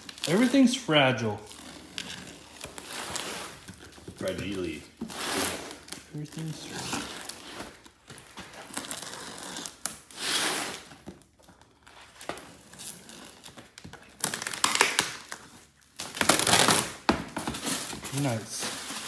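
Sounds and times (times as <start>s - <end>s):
cardboard rustling and scraping: 0.0s - 14.6s, 15.4s - 19.0s
packing tape ripping: 0.0s - 19.0s.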